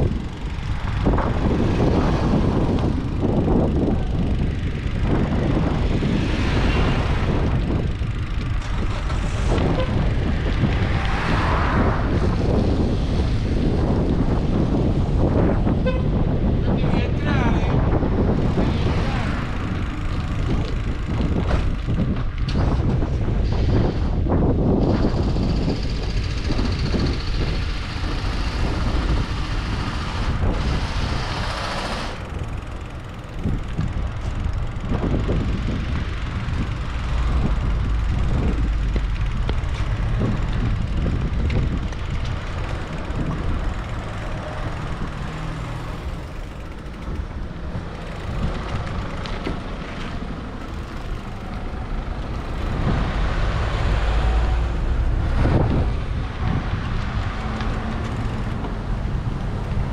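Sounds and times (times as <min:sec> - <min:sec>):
vehicle passing: 0:00.0 - 0:15.5, 0:25.6 - 0:59.9
street traffic: 0:00.0 - 0:59.9
wind rumble on microphone: 0:00.0 - 0:59.9.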